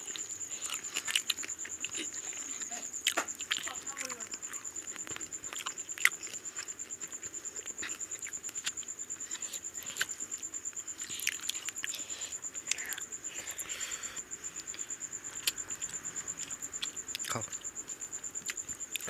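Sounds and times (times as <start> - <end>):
chewing clicks and smacks: 0.0 - 13.1, 14.6 - 19.0.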